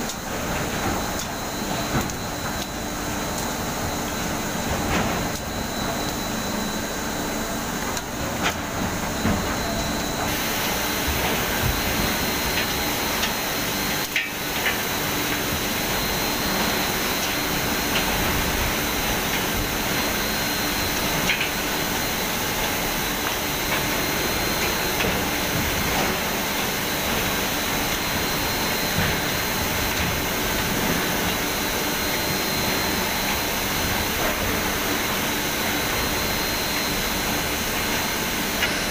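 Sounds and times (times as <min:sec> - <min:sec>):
high steady whine: 0:00.0 - 0:38.9.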